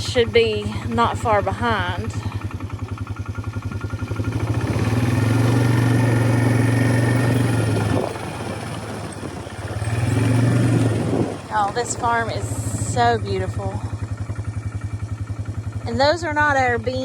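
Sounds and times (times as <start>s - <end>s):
small vehicle engine running: 0.0s - 17.0s.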